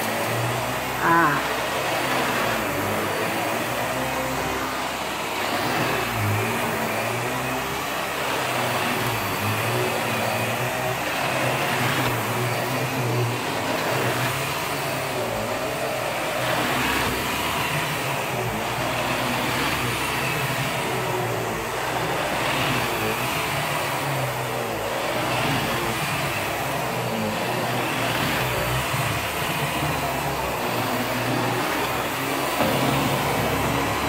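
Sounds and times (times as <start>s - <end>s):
vacuum cleaner running on carpet: 0.0s - 34.0s.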